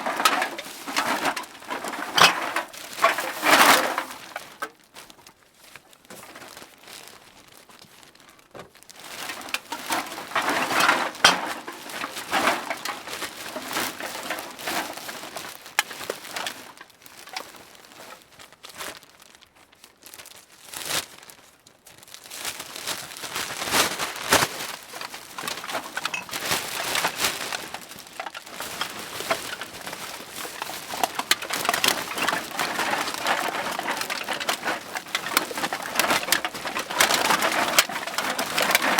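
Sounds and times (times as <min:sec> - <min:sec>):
bag crinkling and rustling: 0:00.0 - 0:38.9.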